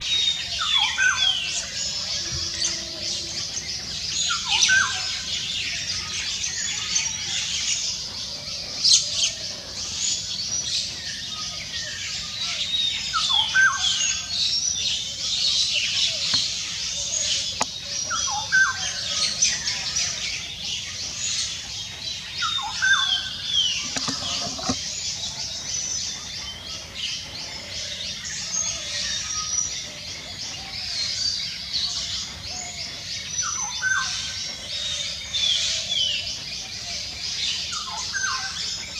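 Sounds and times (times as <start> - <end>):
birds chirping and calling: 0.0 - 38.9.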